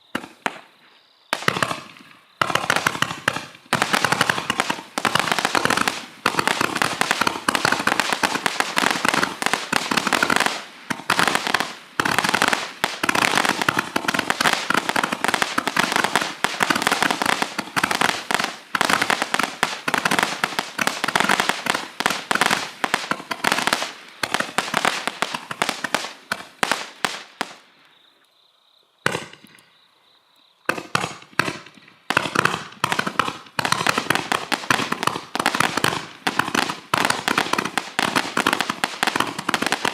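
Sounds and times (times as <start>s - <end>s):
fireworks popping and crackling: 0.0s - 27.8s, 29.1s - 29.7s, 30.7s - 39.9s.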